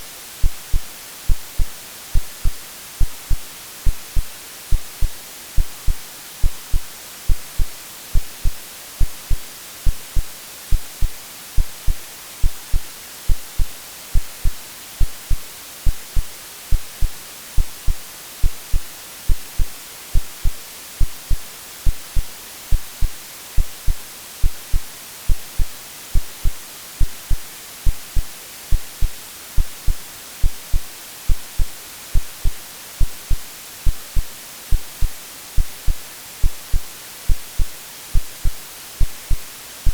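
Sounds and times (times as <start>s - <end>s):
white noise hiss: 0.0s - 39.9s
heartbeat thumps: 0.4s - 39.9s.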